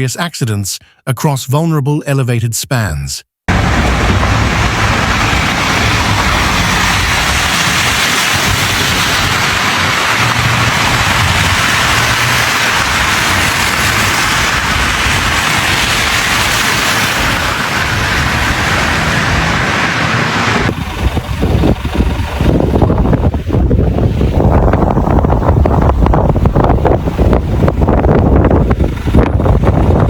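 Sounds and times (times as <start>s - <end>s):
gusty wind buffeting microphone: 3.5s - 30.0s
loud rushing noise: 3.5s - 30.0s.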